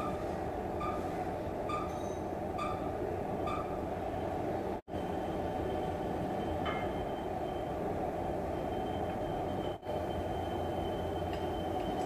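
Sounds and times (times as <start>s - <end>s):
factory machinery rumble: 0.0s - 12.0s
thin steady machine whine: 0.0s - 12.0s.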